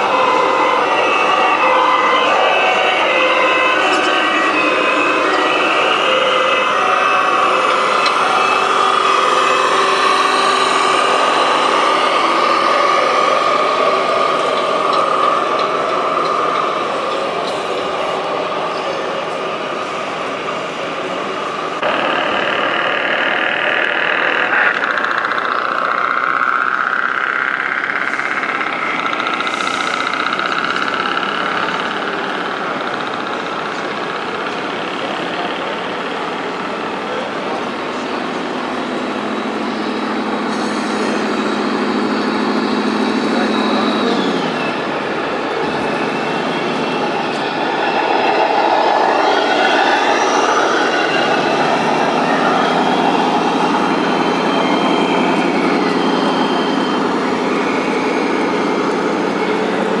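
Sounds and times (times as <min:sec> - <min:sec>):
high fast-pulsing whine: 0:00.0 - 1:00.0
model truck diesel engine noise: 0:00.0 - 1:00.0
steady background din: 0:00.0 - 1:00.0.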